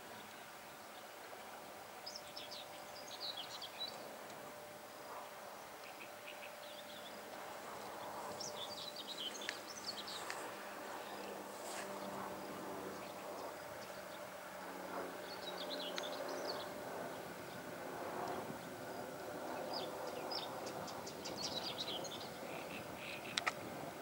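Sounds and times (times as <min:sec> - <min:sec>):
distant train hum: 0:00.0 - 0:24.0
small birds chirping: 0:02.0 - 0:04.4, 0:05.0 - 0:14.4, 0:15.1 - 0:17.7, 0:18.3 - 0:23.7.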